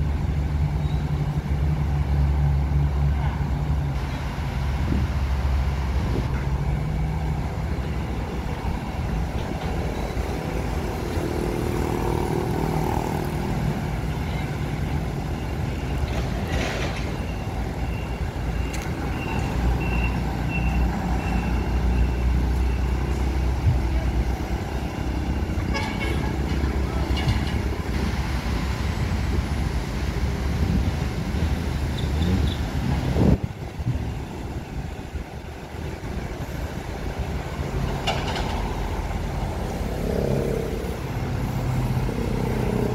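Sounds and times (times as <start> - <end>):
diesel construction machinery running: 0.0 - 42.9
hydraulic excavator working: 0.0 - 42.9
road traffic passing: 0.0 - 42.9.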